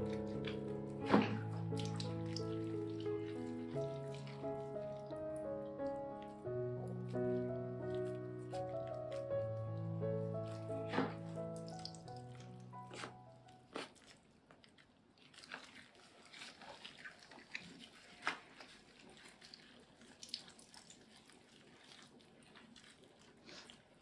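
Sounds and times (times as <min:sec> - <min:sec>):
damp cloth wiping wet fur: 0:00.0 - 0:13.2, 0:15.3 - 0:24.0.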